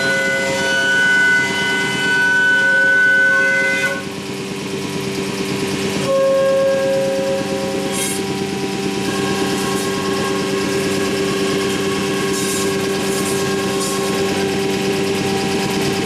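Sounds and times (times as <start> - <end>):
cnc router machine whine: 0.0 - 16.0.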